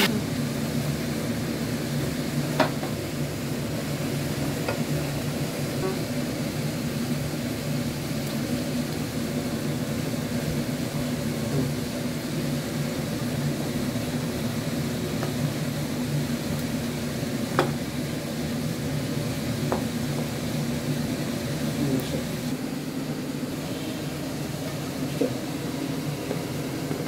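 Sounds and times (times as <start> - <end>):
food sizzling in a pot: 0.0 - 27.0.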